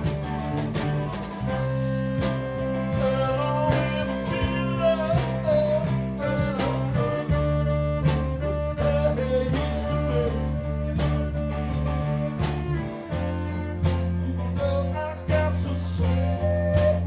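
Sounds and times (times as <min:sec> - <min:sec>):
bass playing: 0:00.0 - 0:17.0.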